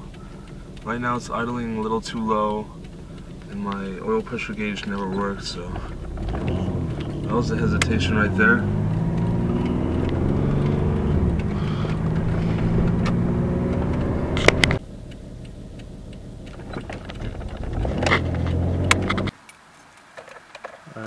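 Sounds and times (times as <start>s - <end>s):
car engine idling unevenly: 0.0s - 19.3s
sharp clicks: 0.0s - 19.6s.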